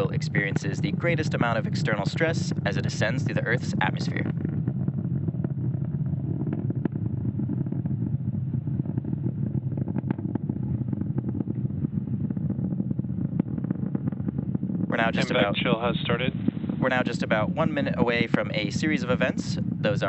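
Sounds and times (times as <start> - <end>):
faint crackles and clicks: 0.0 - 20.0
rocket engines rumbling: 0.0 - 20.0.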